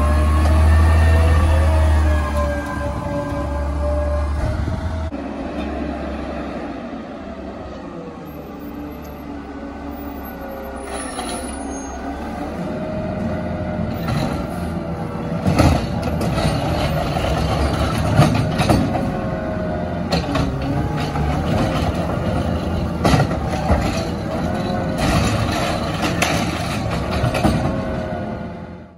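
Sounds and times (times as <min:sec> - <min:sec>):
garbage truck whining: 0:00.0 - 0:28.9.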